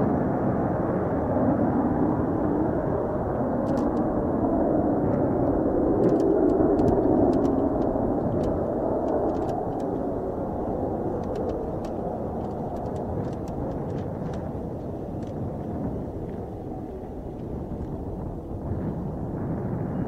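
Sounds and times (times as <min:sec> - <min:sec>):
distant jet engine: 0:00.0 - 0:20.0.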